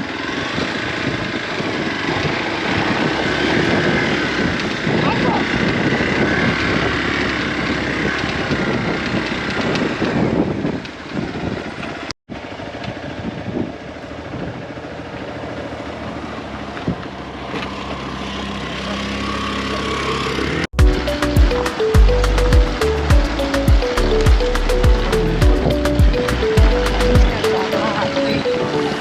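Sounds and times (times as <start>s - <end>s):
road and wind noise: 0.0s - 29.0s
vehicle engine running: 0.0s - 29.0s.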